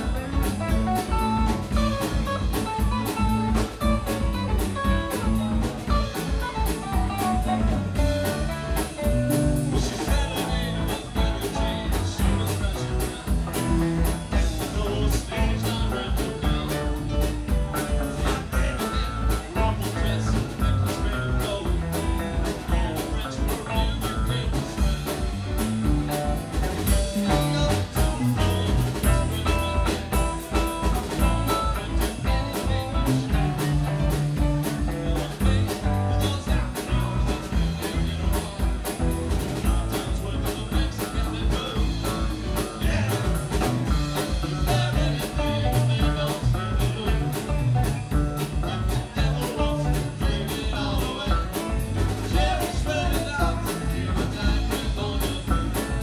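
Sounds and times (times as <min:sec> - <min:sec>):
drum kit beat: 0:00.0 - 0:56.0
electric guitars: 0:00.0 - 0:56.0.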